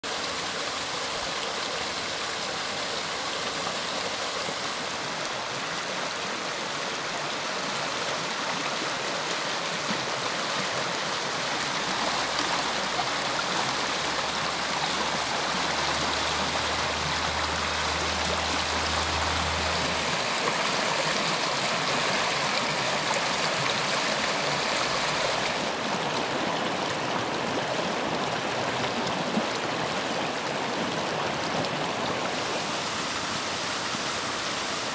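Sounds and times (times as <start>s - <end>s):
river water rushing over stones: 0.0s - 34.9s.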